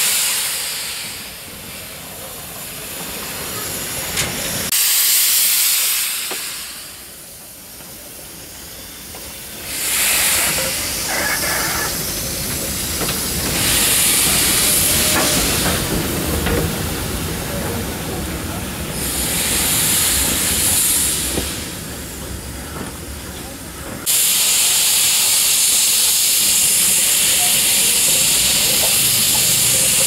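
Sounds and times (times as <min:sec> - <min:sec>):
soft steam hiss: 0:00.0 - 0:30.0
steam locomotive hissing blasts: 0:00.0 - 0:30.0.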